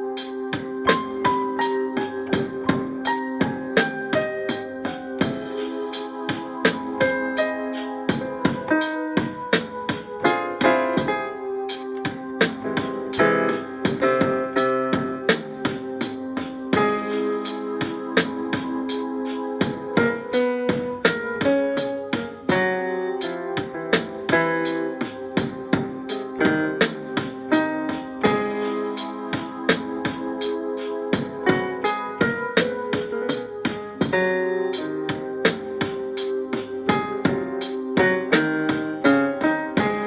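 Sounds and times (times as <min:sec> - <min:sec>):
electric piano chords: 0:00.0 - 0:40.0.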